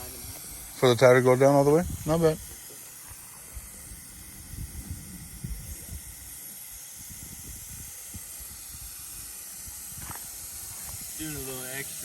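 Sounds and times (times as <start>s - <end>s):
air hissing from tire: 0.0s - 12.0s.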